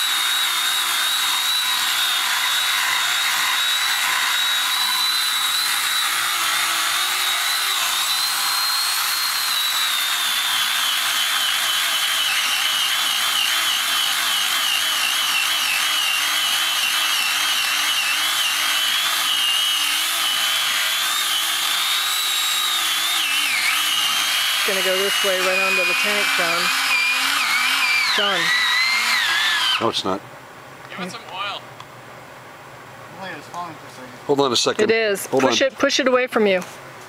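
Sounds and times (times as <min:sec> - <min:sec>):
chainsaw cutting at high throttle: 0:00.0 - 0:30.0.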